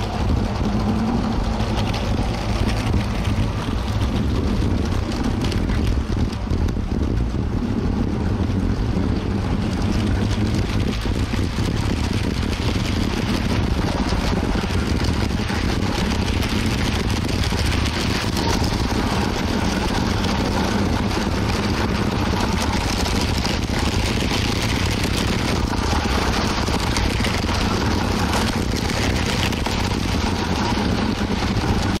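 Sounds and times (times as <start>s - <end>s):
toy train rolling on plastic track: 0.0s - 6.4s, 9.7s - 32.0s
electric motor rumble: 0.0s - 32.0s.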